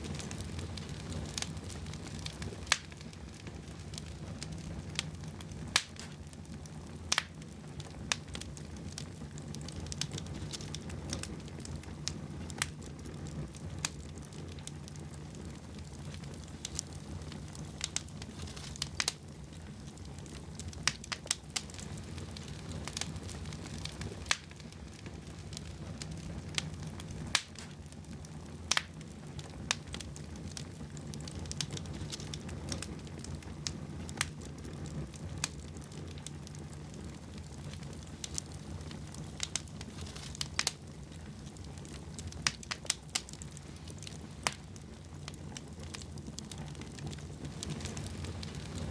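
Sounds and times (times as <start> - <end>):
fire crackles and pops: 0.0 - 48.9
wood fire burning: 0.0 - 48.9.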